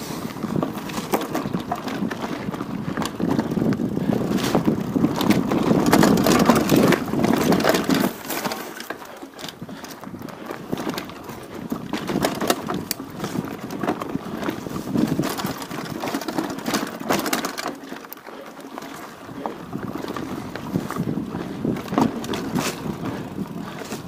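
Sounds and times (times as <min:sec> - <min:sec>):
crunching and rattling on rough track: 0:00.0 - 0:24.0.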